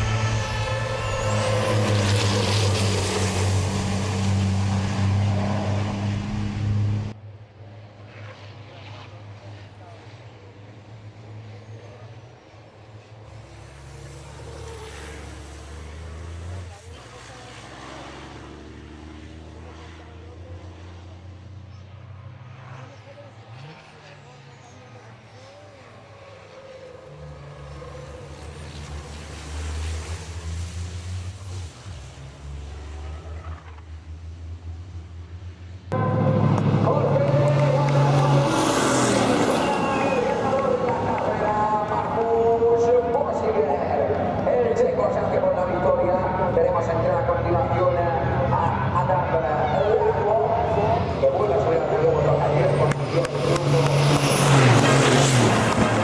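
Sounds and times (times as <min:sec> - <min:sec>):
truck diesel engines running: 0:00.0 - 0:07.2, 0:09.8 - 0:56.0.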